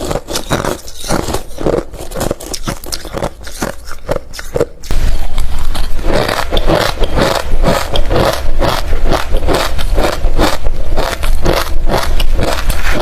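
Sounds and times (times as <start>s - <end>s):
ice crunching in mouth: 0.0s - 13.0s.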